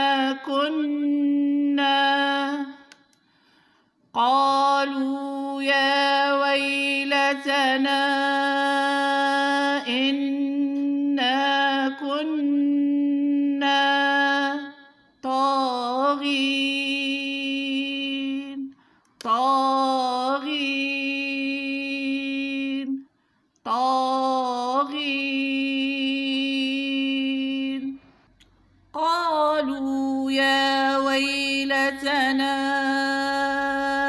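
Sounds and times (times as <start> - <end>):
woman chanting recitation: 0.0 - 3.1, 4.1 - 28.1, 28.9 - 34.0.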